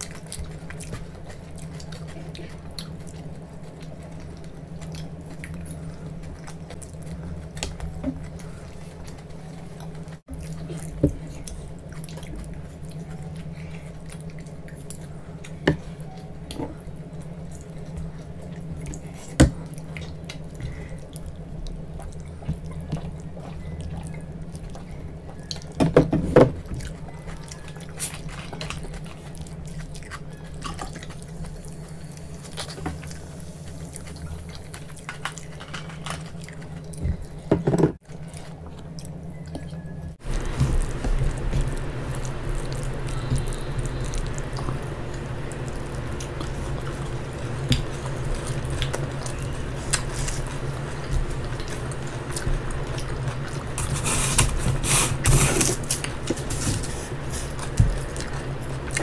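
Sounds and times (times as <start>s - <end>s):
wet chewing and squishing: 0.0s - 25.9s, 26.5s - 59.0s
steady low hum: 0.0s - 59.0s.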